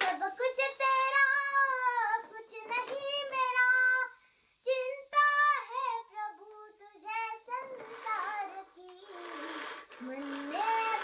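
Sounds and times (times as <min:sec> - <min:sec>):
girl singing devotional song: 0:00.0 - 0:11.0.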